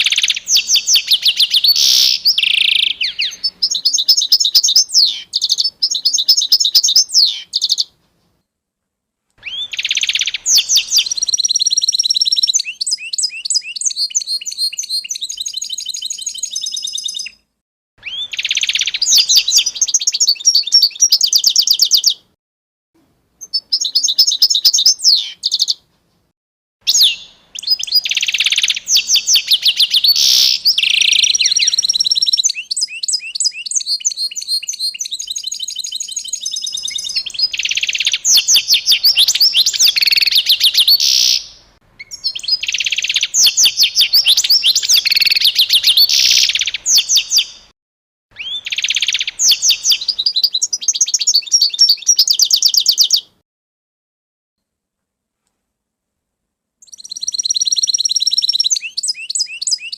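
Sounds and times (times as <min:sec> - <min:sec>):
songbird chirping and trilling: 0:00.0 - 0:08.0, 0:09.4 - 0:22.3, 0:23.4 - 0:25.9, 0:26.9 - 0:47.7, 0:48.3 - 0:53.4, 0:56.8 - 0:59.9.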